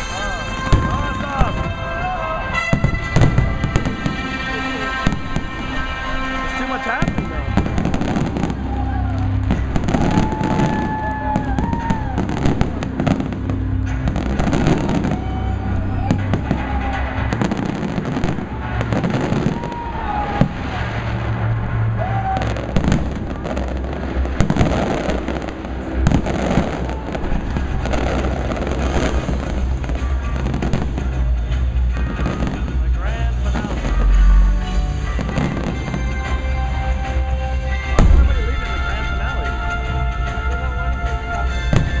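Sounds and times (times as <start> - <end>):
fireworks bursting and crackling: 0.0 - 42.0
music with sung melody: 0.0 - 42.0.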